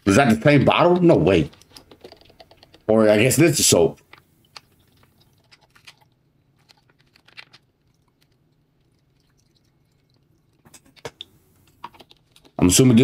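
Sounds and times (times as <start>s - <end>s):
faint clicks and ticks: 1.0s - 12.6s.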